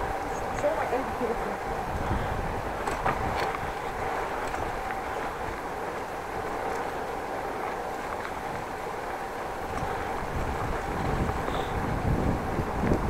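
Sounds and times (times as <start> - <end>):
bicycle tyre and road noise: 0.0 - 13.0
faint steady hum: 0.0 - 13.0.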